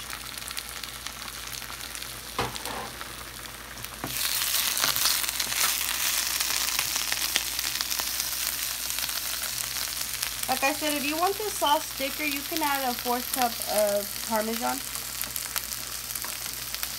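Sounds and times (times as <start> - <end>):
food sizzling in a pan: 0.0 - 16.9.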